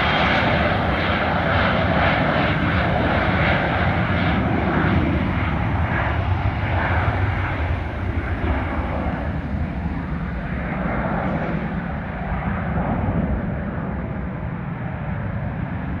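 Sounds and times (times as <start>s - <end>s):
jet engine rumble at takeoff: 0.0s - 16.0s.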